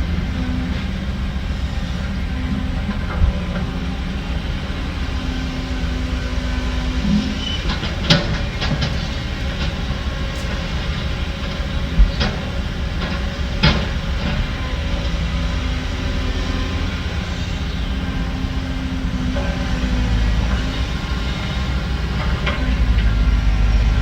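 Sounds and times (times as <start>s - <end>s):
diesel machinery running: 0.0s - 24.0s.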